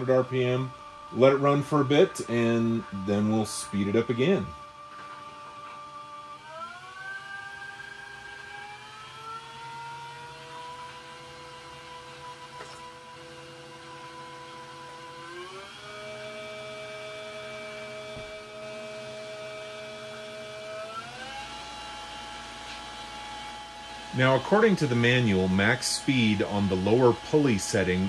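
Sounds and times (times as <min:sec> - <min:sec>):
milling machine spindle whine: 0:00.0 - 0:28.0.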